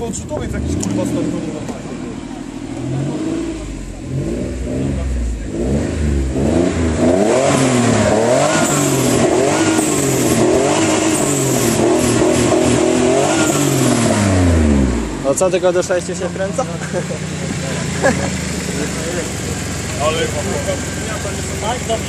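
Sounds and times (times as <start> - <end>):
turbocharged car engine revving: 0.0 - 22.0.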